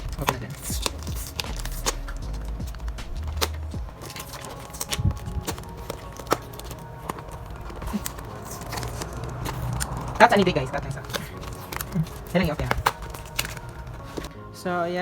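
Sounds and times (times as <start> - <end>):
packaging being handled: 0.0 - 14.3
background music: 0.0 - 15.0.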